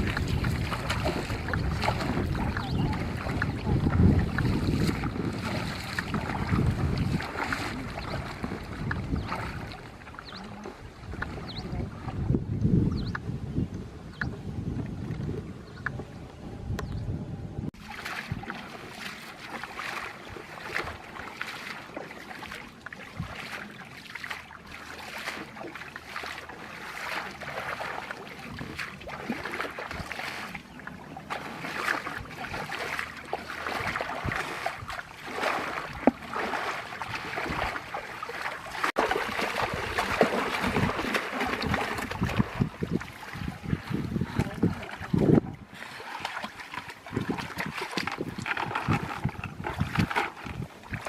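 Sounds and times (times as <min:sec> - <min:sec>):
water splashing and sloshing: 0:00.0 - 0:13.2, 0:17.7 - 0:51.0.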